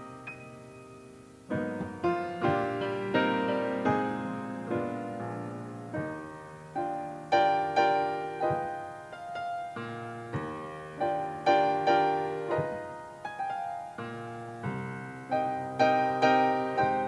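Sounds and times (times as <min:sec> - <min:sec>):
solo piano chords: 0:00.0 - 0:17.0.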